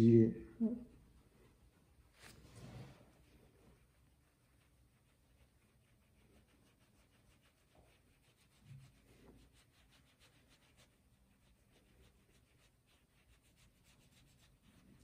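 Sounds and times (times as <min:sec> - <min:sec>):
hands rubbing skin: 0:00.9 - 0:15.0.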